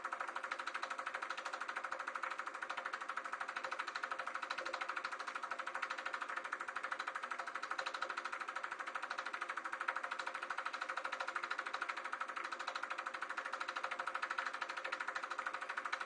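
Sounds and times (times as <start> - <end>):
film projector clatter: 0.0 - 16.0
projector motor hum: 0.0 - 16.0.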